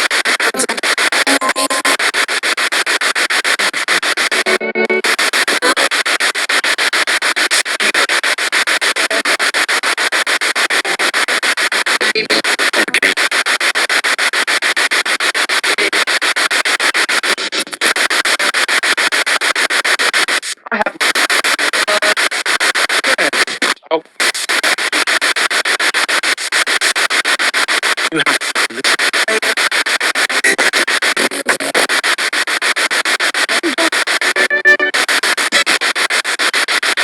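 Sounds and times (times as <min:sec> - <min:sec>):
choppy radio static bursts: 0:00.0 - 0:37.0
snatches of broadcast sound: 0:00.0 - 0:37.0.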